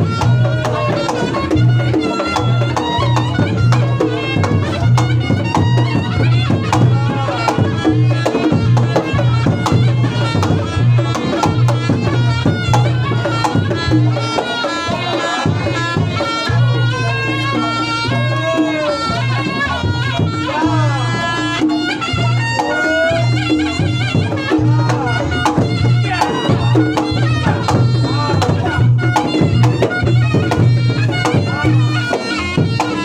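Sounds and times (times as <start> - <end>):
fast hand drumming: 0.0 - 33.0
nasal reed trumpet melody: 0.0 - 33.0.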